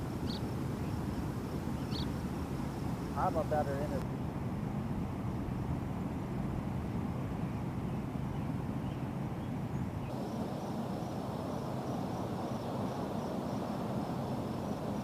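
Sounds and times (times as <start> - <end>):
low rushing outdoor rumble: 0.0 - 15.0.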